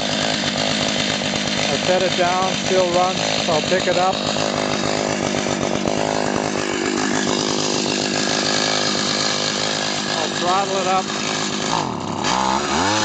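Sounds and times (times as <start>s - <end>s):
ice auger engine idling: 0.0s - 13.0s.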